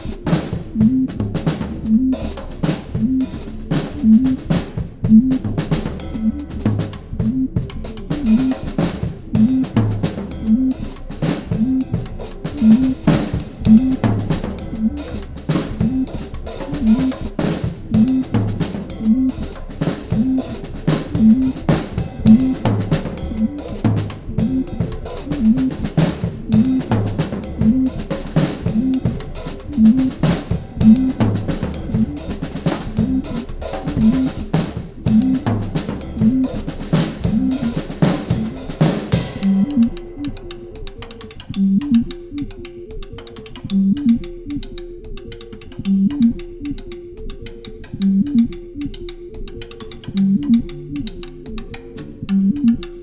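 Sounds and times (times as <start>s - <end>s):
drum kit playing: 0.0s - 53.0s.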